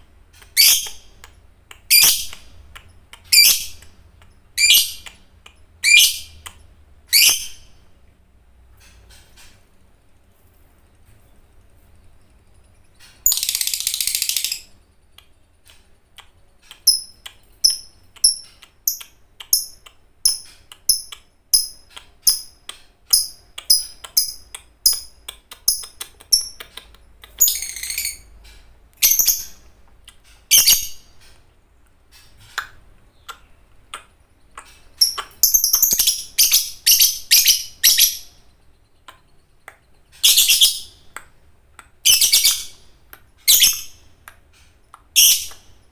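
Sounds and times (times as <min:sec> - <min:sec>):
lovebird chattering and chirping: 0:00.3 - 0:07.8, 0:12.0 - 0:31.4, 0:32.0 - 0:45.9.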